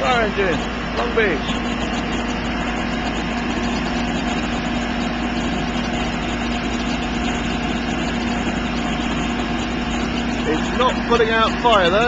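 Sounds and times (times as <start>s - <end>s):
fire engine running: 0.0s - 12.0s
water spraying: 0.0s - 12.0s.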